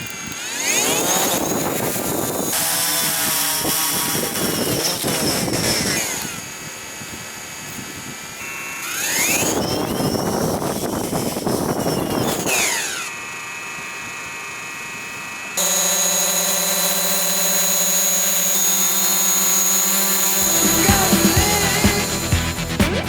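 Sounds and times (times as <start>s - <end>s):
drone motors multi-tone whine: 0.0s - 22.8s
drone propellers whining: 0.0s - 23.0s.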